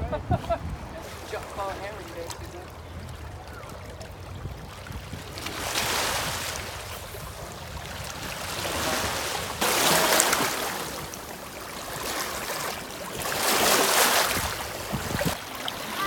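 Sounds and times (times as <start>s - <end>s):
river water splashing over rocks: 1.0s - 16.0s.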